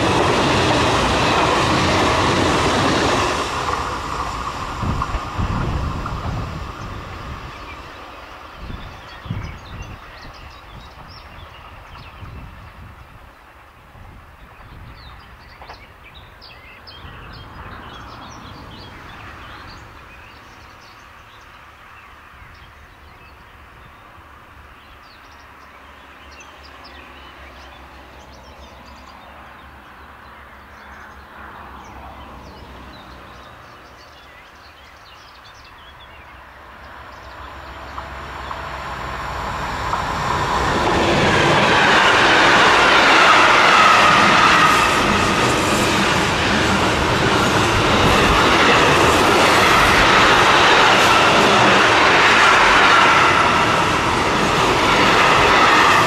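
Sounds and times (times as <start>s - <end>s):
faint distant train rumble: 0.0s - 56.0s
train wheel and rail noise: 0.0s - 56.0s.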